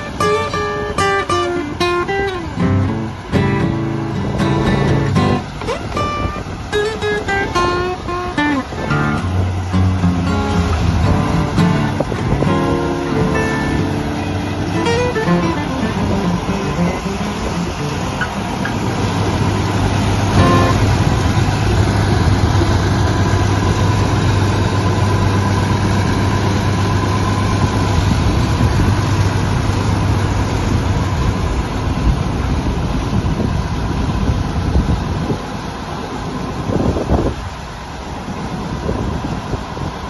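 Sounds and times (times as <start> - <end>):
road roller engine running: 0.0 - 40.0.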